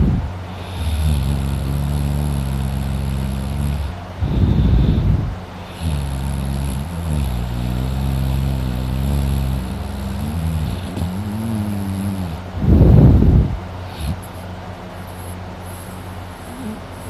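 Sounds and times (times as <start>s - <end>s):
man snoring: 0.0s - 13.2s, 15.1s - 17.0s.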